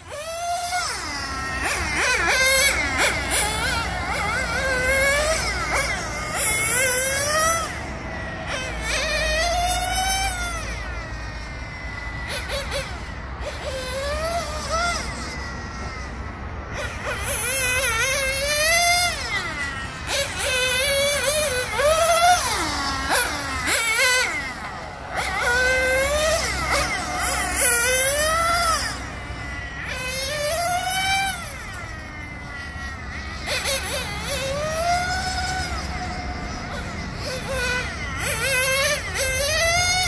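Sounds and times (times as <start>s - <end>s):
rc car engines screaming: 0.0s - 40.0s.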